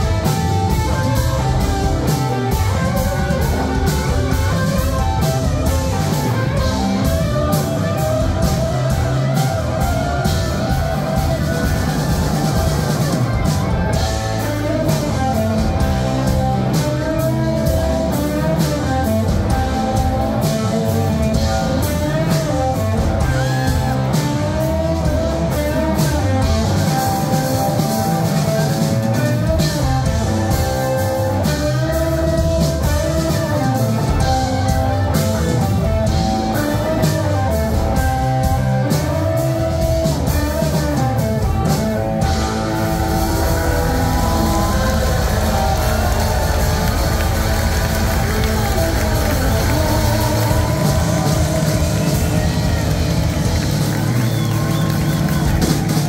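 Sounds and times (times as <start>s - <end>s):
bass guitar: 0.0s - 56.0s
drums: 0.0s - 56.0s
electric guitars: 0.0s - 56.0s
keyboard: 0.0s - 56.0s.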